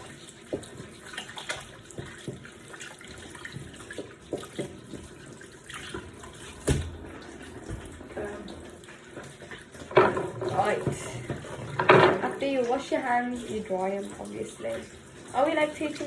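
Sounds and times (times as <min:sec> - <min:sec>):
hands washing splashes: 0:00.0 - 0:16.0
tap running into sink: 0:00.0 - 0:16.0.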